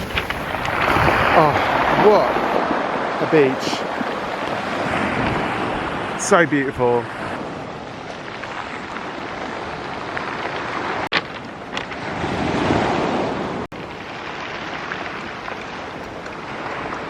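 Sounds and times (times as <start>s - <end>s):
sea surf washing onto a beach: 0.0s - 17.0s
wind buffeting the microphone: 0.0s - 17.0s.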